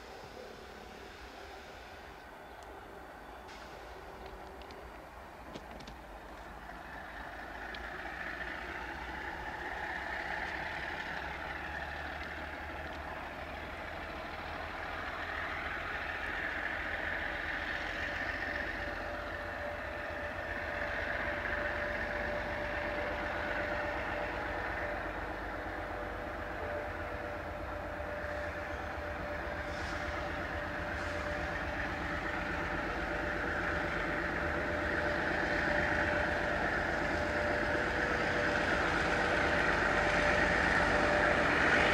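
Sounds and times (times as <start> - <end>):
diesel locomotive engine running: 0.0 - 41.9.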